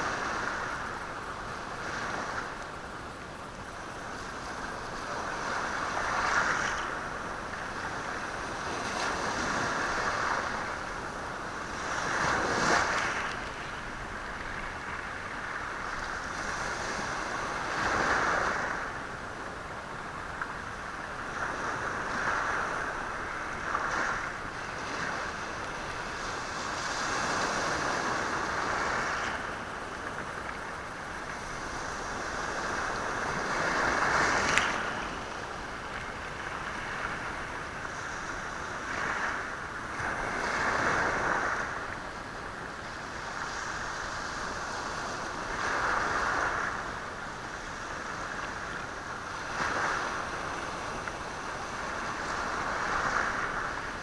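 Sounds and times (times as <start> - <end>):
sea waves on rocky shore: 0.0 - 54.0.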